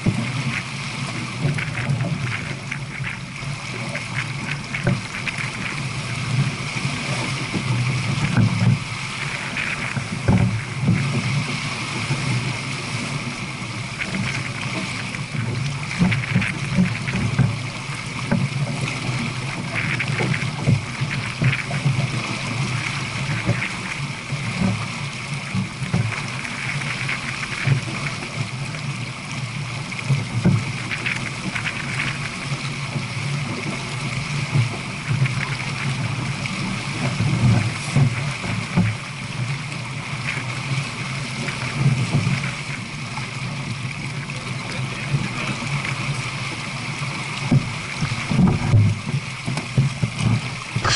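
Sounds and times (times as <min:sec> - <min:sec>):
water rushing along boat hull: 0:00.0 - 0:50.9.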